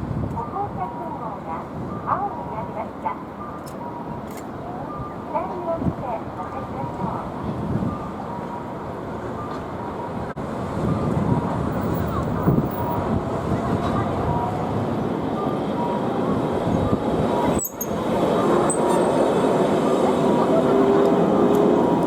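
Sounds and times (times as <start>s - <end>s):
road traffic noise: 0.0s - 22.0s
streetcar running on track: 0.0s - 22.0s.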